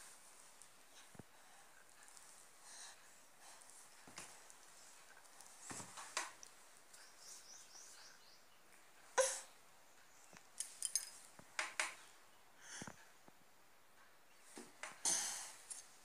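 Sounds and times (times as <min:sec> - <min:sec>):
quiet hiss: 0:00.0 - 0:16.0.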